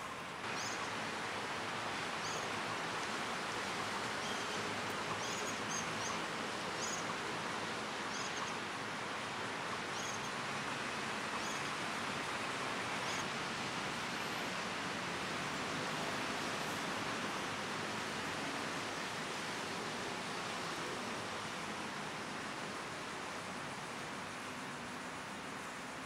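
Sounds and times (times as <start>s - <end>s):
outdoor ambient hiss: 0.0s - 26.0s.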